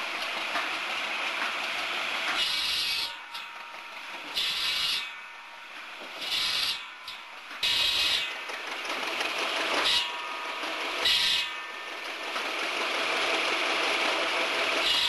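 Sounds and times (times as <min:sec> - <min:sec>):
circular saw cutting wood: 0:00.0 - 0:05.3, 0:05.9 - 0:15.0.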